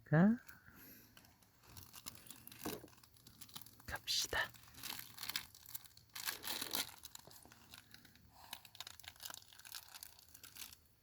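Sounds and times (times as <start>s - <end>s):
dry material crinkling: 0.3s - 11.0s.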